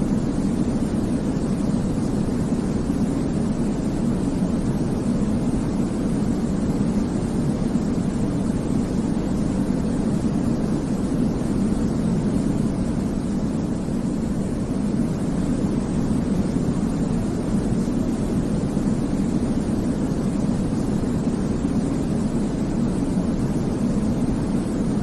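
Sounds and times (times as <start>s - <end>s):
deep white noise rumble: 0.0s - 25.0s.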